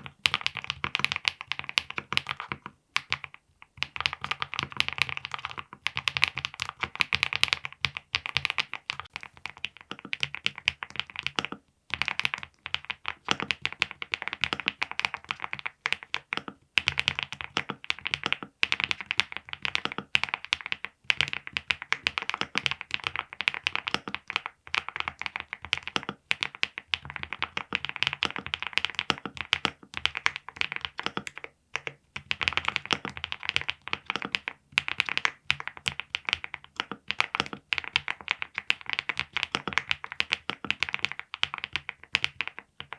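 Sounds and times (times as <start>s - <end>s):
mechanical keyboard typing: 0.0s - 42.9s.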